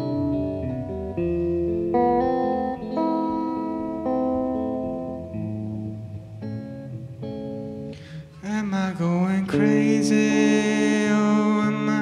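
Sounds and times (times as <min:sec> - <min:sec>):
ringing guitar chords: 0:00.0 - 0:12.0.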